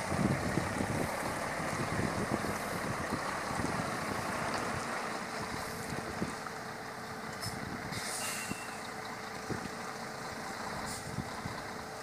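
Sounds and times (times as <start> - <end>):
heavy truck engine droning: 0.0 - 12.0.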